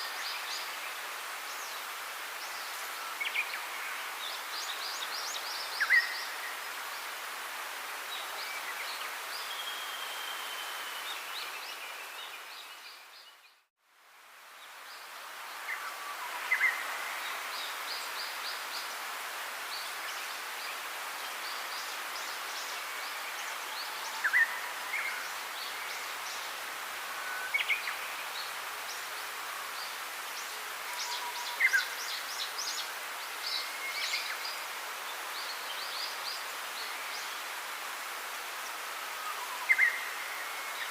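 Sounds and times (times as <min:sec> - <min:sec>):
outdoor hiss: 0:00.0 - 0:40.9.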